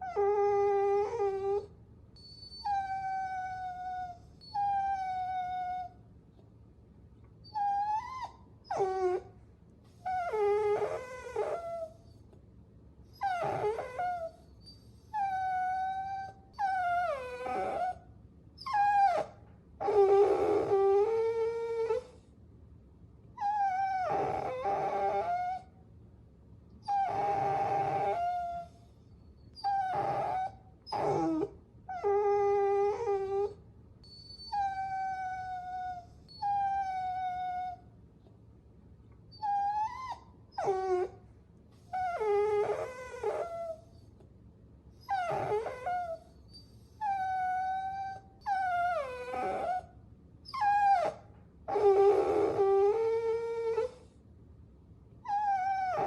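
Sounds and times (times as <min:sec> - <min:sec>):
puppy whining: 0:00.0 - 0:06.1, 0:07.4 - 0:12.4, 0:13.0 - 0:22.3, 0:23.4 - 0:25.8, 0:26.8 - 0:38.3, 0:39.1 - 0:44.3, 0:44.9 - 0:54.2, 0:55.2 - 0:56.0.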